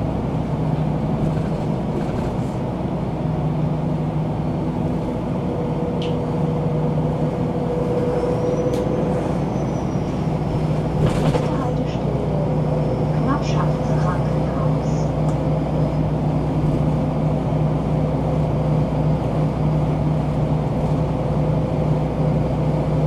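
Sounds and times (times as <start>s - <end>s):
bus diesel engine humming: 0.0s - 23.0s.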